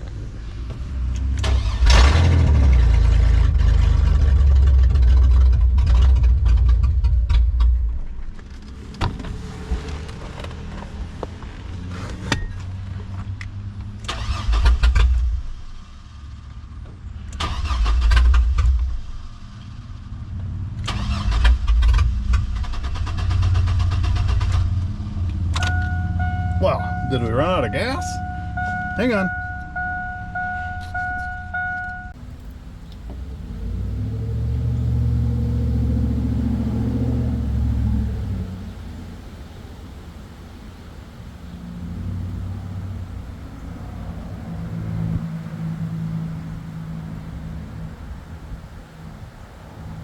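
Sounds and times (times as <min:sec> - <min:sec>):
car engine cranking and firing: 0:00.0 - 0:43.7.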